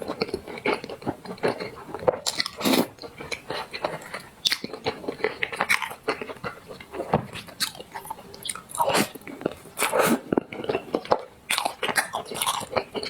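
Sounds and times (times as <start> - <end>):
person biting and chewing: 0.0 - 13.0.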